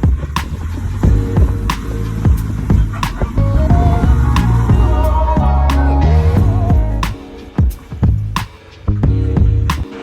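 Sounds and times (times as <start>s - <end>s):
music with heavy beat: 0.0s - 10.0s.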